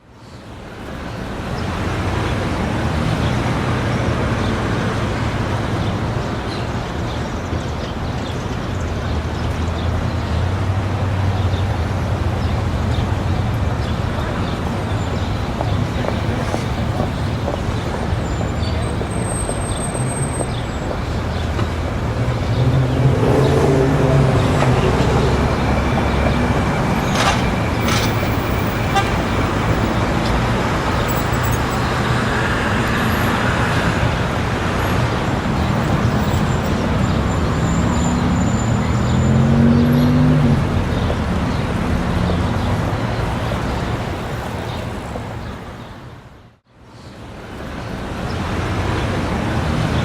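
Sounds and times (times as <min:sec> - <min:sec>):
road traffic noise: 0:00.0 - 0:50.0
vehicles passing: 0:00.1 - 0:50.0.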